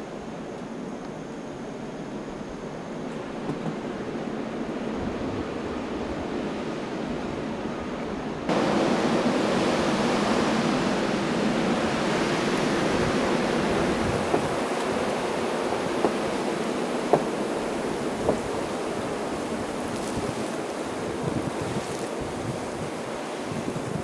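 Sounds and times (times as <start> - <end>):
blizzard wind rushing: 0.0 - 24.0.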